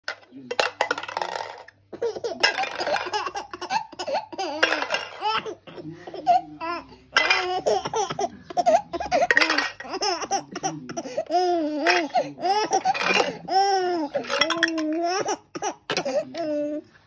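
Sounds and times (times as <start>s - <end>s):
baby laughing: 1.9s - 16.9s.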